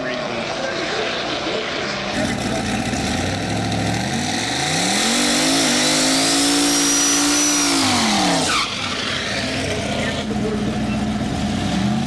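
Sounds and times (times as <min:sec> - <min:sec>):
race car engine at full throttle: 0:00.0 - 0:12.0.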